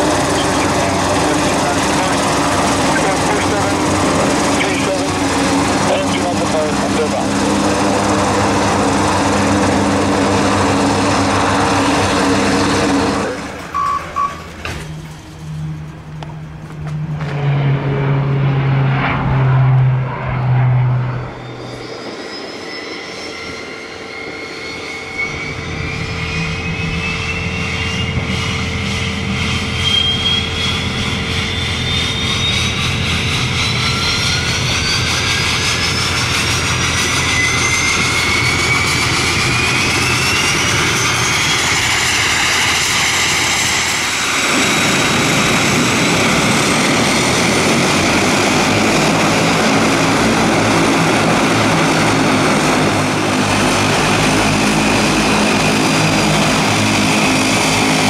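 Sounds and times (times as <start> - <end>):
propellers rushing: 0.0 - 58.0
turbine whines rising in pitch: 0.0 - 58.0
turboprop engines starting: 0.0 - 58.0.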